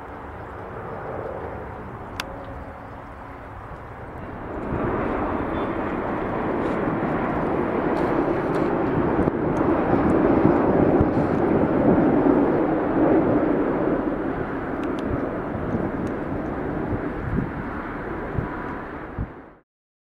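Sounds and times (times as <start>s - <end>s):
jet airliner passing overhead: 0.0s - 19.6s.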